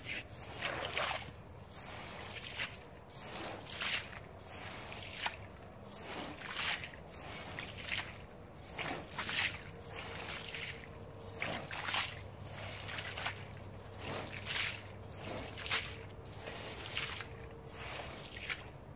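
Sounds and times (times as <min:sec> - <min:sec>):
squeegee squishing water from rug: 0:00.0 - 0:18.9.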